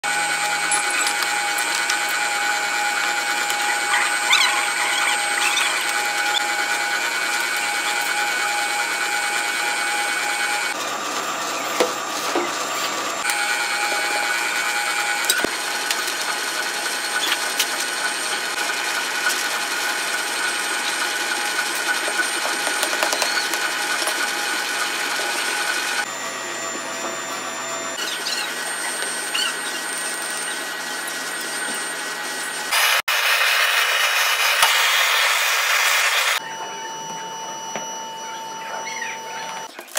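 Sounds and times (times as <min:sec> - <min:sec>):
high machine whine: 0:00.0 - 0:39.8.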